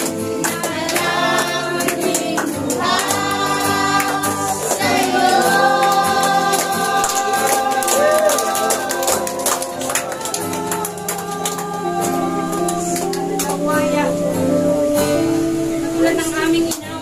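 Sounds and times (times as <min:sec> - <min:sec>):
band accompaniment: 0:00.0 - 0:16.9
congregation singing: 0:00.0 - 0:17.0.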